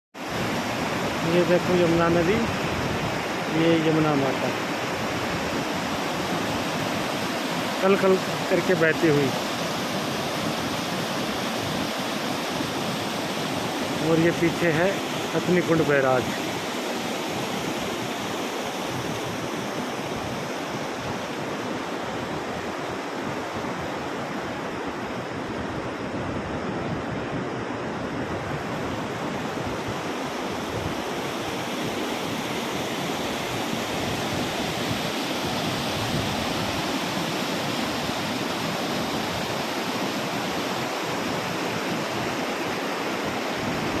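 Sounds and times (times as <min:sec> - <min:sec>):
river water rushing: 0:00.2 - 0:44.0.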